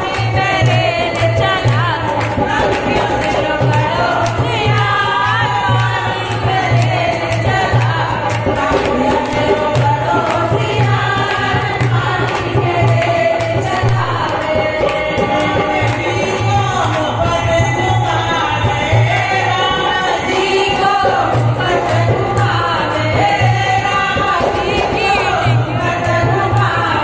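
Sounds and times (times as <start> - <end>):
rhythmic hand claps: 0.0 - 27.0
steady drum beat: 0.0 - 27.0
women singing folk song: 0.0 - 27.0.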